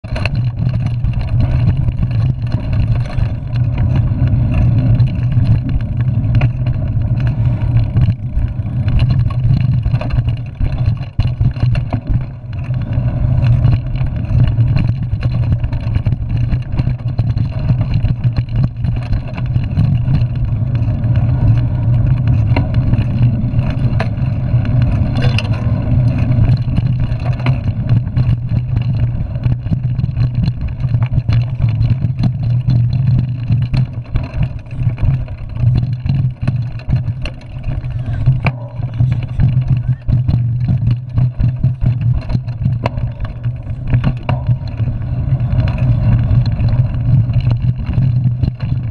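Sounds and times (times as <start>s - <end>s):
bike clicks and rattles: 0.0s - 48.9s
bike tyre noise on dirt: 0.0s - 48.9s.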